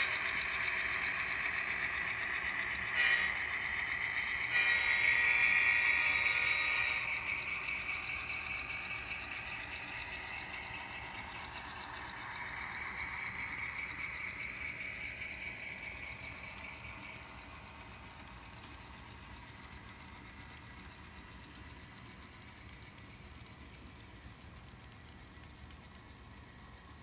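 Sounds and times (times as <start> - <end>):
model locomotive diesel engine sound: 0.0 - 27.0.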